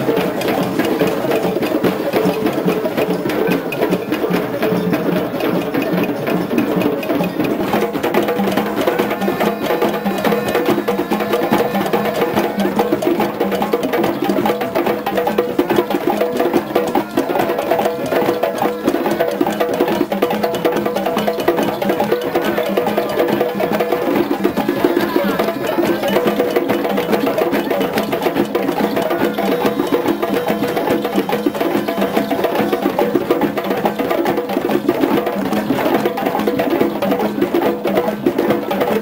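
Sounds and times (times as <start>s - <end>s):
hand drums playing fast rhythm: 0.0s - 39.0s.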